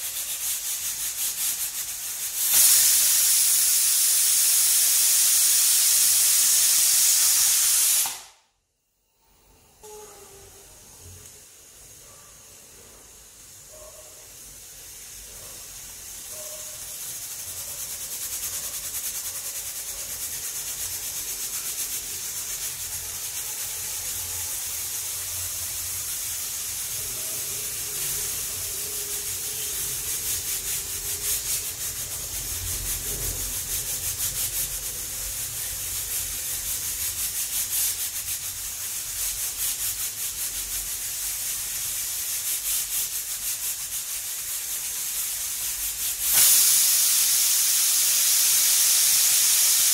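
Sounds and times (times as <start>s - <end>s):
pressure cooker steam hissing: 0.0s - 8.3s, 9.8s - 49.9s.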